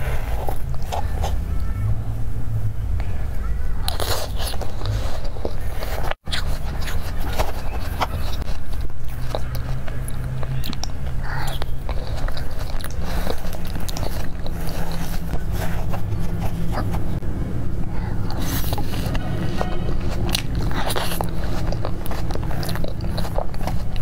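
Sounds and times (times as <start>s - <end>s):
steady low hum: 0.0s - 24.0s
wet biting and chewing: 3.9s - 17.2s, 17.9s - 24.0s.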